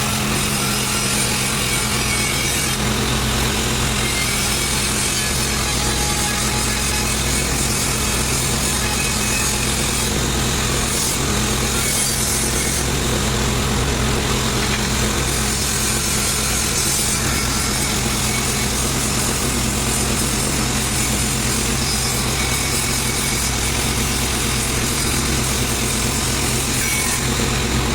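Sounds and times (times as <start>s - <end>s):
machine motor droning: 0.0s - 27.9s.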